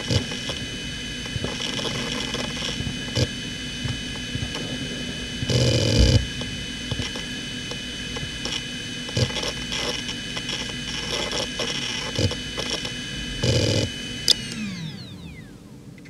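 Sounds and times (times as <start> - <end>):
hard drive whine: 0.0 - 16.0.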